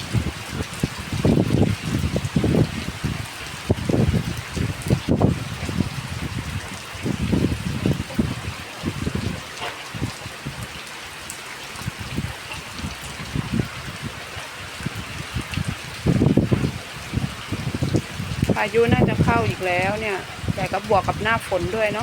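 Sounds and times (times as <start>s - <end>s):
heavy rain hissing: 0.0s - 22.0s
wind buffeting microphone: 0.0s - 22.0s.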